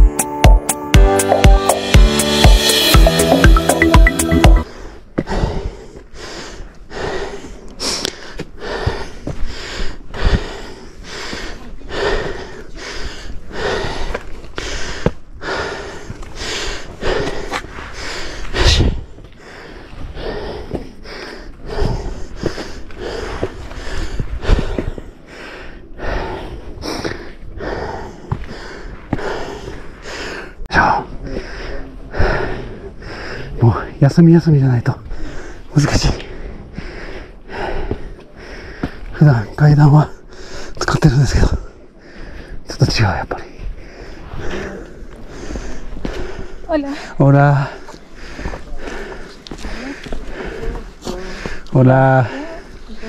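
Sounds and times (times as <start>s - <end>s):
man panting heavily: 4.6s - 34.0s, 34.8s - 53.0s.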